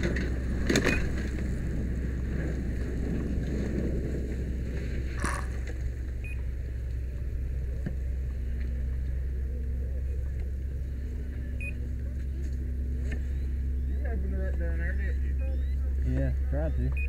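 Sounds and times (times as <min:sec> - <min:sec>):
fire engine droning: 0:00.0 - 0:17.0.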